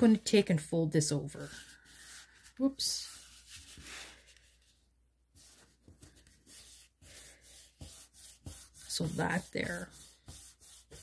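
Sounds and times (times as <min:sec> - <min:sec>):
hands rubbing cardstock: 0:01.4 - 0:04.8, 0:05.4 - 0:11.0.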